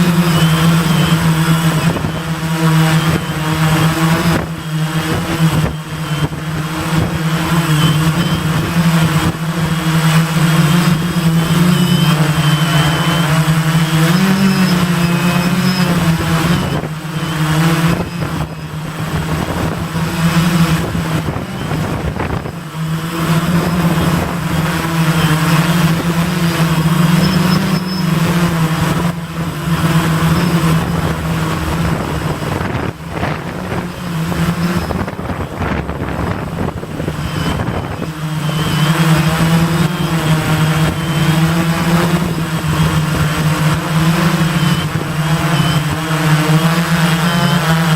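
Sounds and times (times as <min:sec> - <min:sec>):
wind buffeting microphone: 0:00.0 - 0:46.5
quadcopter motors humming: 0:00.0 - 0:47.9.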